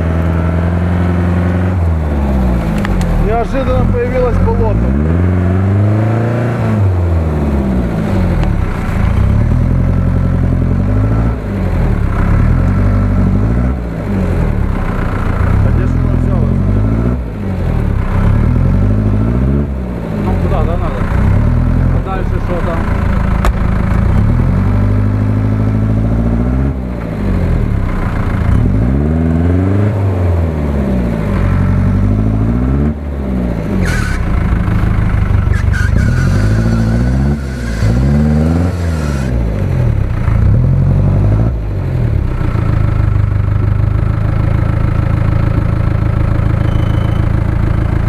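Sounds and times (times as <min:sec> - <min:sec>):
off-road engine revving: 0:00.0 - 0:48.0.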